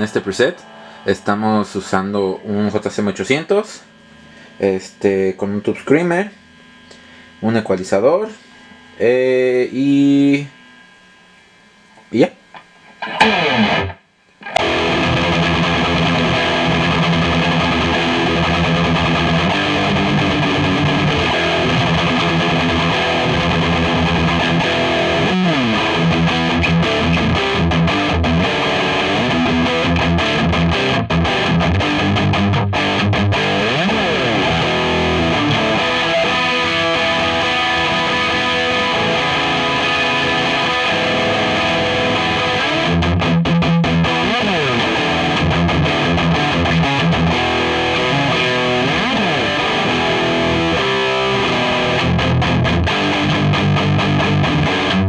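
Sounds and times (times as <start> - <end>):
distorted electric guitar riff: 0.0 - 55.0.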